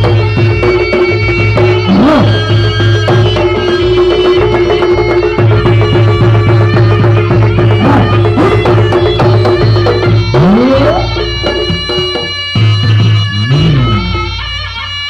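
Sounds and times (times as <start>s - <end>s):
quick hand-drum strokes: 0.0s - 14.1s
droning reed tone: 0.0s - 14.9s.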